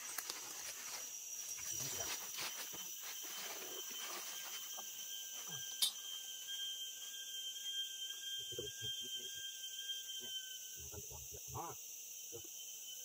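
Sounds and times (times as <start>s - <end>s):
insects calling: 0.0s - 13.0s.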